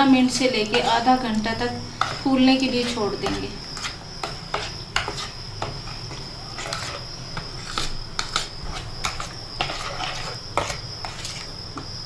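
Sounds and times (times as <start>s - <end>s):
metal spoon stirring in bowl: 0.0s - 11.6s.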